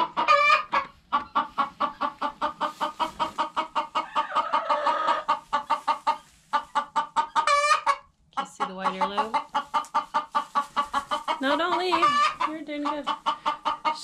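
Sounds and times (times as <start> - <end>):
hen clucking: 0.0 - 14.0.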